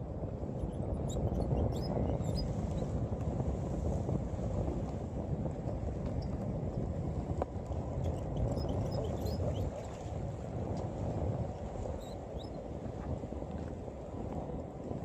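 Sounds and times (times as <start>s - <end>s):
choppy sea water: 0.0s - 15.0s
wind rumble on microphone: 0.0s - 15.0s.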